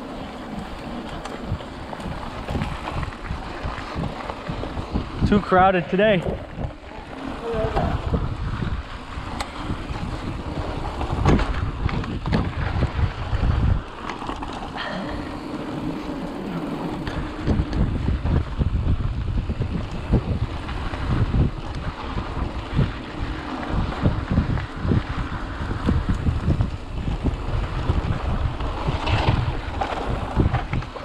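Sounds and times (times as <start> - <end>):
bike rattling over bumps: 0.0 - 31.0
bike tyres rolling on dirt: 0.0 - 31.0
wind buffeting microphone: 0.0 - 31.0.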